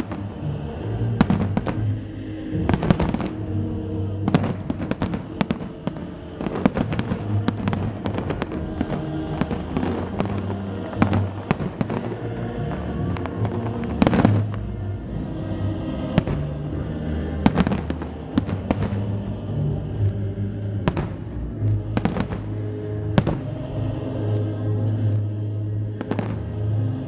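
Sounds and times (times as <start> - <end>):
firework bangs and crackles: 0.0 - 25.3, 25.9 - 27.0
music: 0.0 - 27.0.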